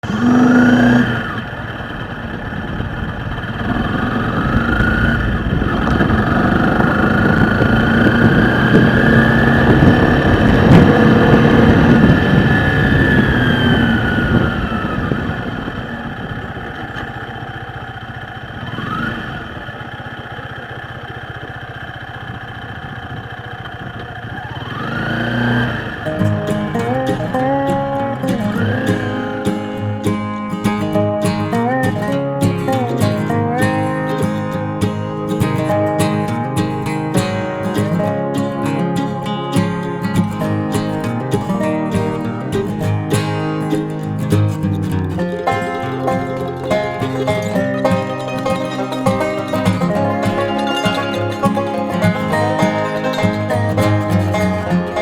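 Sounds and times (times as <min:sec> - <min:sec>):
road noise: 0:00.0 - 0:55.0
vehicle engine accelerating: 0:00.0 - 0:55.0.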